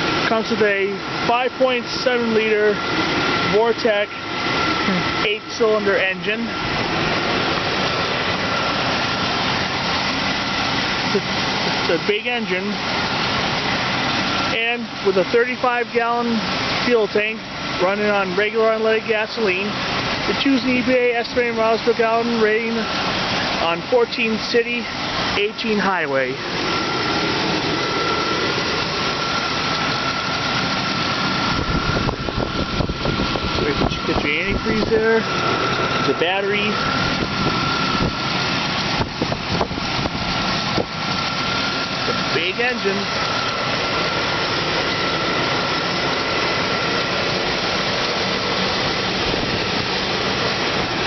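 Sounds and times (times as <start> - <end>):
car engine idling: 0.0 - 51.0
heavy uneven engine rumble: 0.0 - 51.0
thin steady whine: 0.0 - 51.0.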